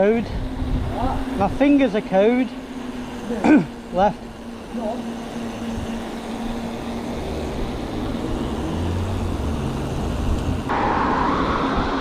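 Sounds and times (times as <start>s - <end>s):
rushing traffic noise: 0.0s - 12.0s
vehicle engine droning: 0.0s - 12.0s.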